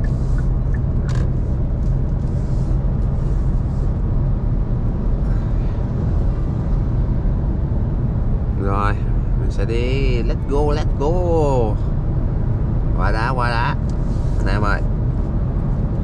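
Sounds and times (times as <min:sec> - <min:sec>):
car engine hum: 0:00.0 - 0:16.0
road and tyre noise: 0:00.0 - 0:16.0.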